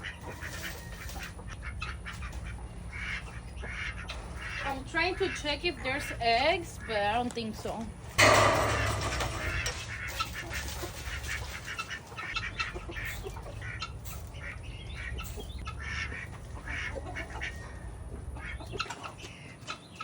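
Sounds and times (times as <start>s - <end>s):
poultry flock calling: 0.0s - 20.0s.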